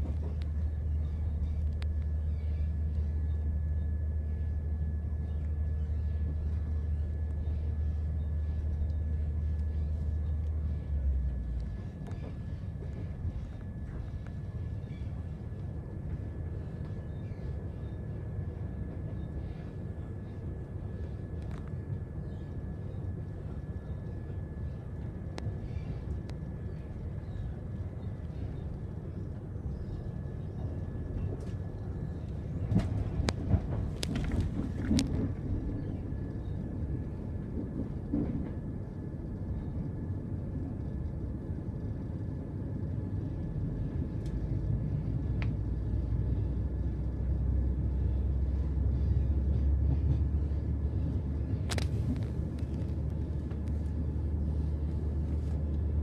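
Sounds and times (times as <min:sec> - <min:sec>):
faint steady whine: 0:00.0 - 0:56.0
train running rumble: 0:00.0 - 0:56.0.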